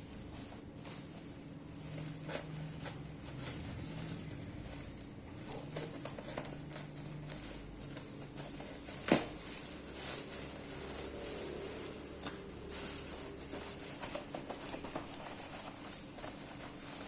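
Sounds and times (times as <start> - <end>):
packaging rustling: 0.0 - 17.0.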